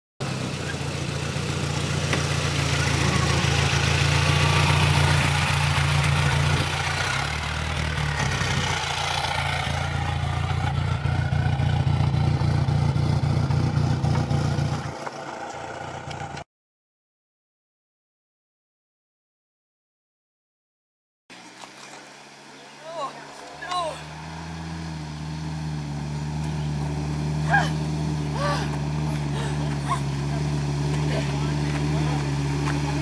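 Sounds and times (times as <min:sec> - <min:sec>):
car engine running at low revs: 0:00.2 - 0:16.4, 0:21.4 - 0:33.0.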